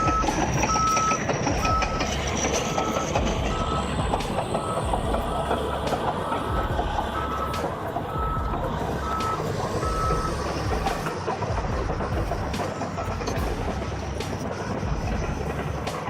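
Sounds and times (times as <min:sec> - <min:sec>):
bulldozer rumble: 0:00.0 - 0:16.0
reversing alarm beeping: 0:00.0 - 0:16.0.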